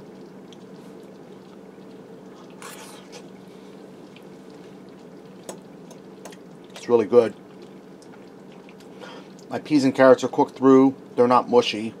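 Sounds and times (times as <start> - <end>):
kitchen low hum: 0.0 - 12.0.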